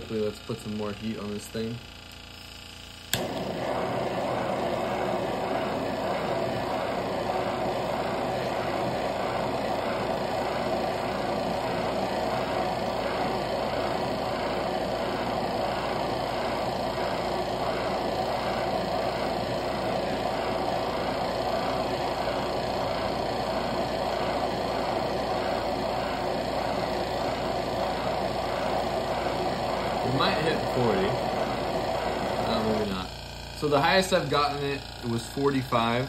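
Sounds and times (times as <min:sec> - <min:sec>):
blowtorch flame hissing: 0:00.0 - 0:36.0
blowtorch lighting click: 0:03.1 - 0:32.8.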